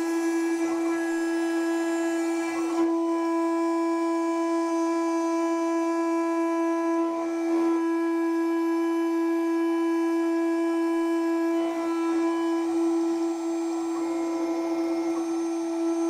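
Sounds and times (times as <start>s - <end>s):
cnc router high-pitched whine: 0.0s - 16.0s.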